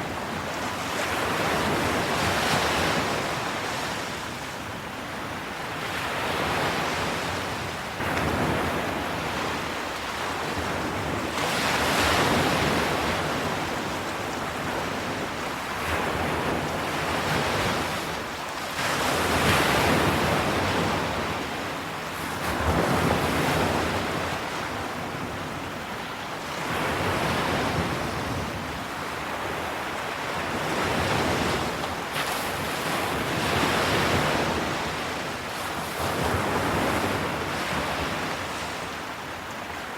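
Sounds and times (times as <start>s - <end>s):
wind: 0.0s - 39.9s.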